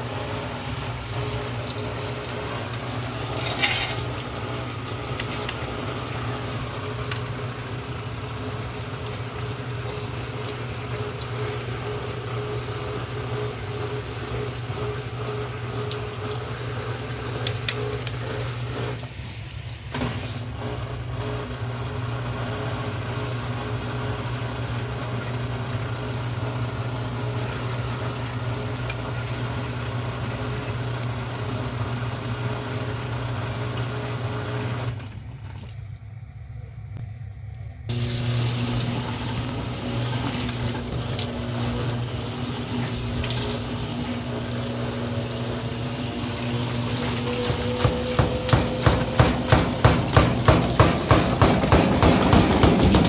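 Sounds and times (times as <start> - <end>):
washing machine motor hum: 0.0 - 53.0.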